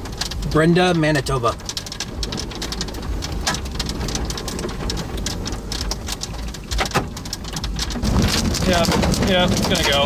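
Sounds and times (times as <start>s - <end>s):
low steady rumble: 0.0s - 10.0s
raindrops hitting vehicle: 0.0s - 10.0s.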